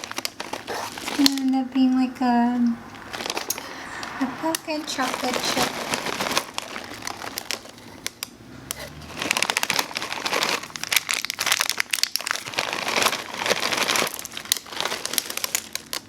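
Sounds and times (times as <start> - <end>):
bag crinkling: 0.0 - 2.0, 2.9 - 16.0.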